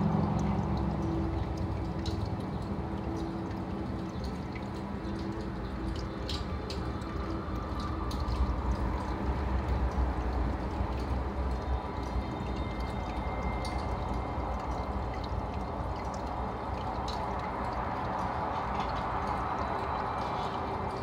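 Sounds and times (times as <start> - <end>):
aquarium water trickling and bubbling: 0.0 - 21.0
small drip-like pops: 0.0 - 21.0.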